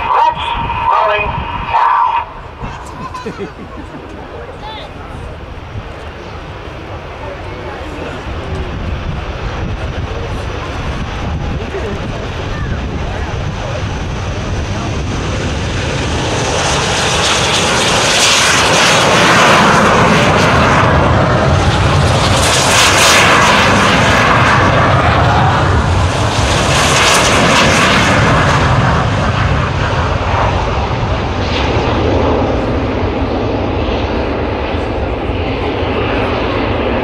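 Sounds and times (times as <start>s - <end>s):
jet engines roaring on takeoff: 0.0s - 37.0s.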